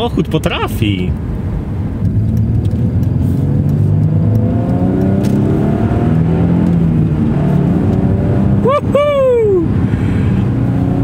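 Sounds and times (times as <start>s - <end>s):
car engine accelerating hard: 2.0s - 11.0s.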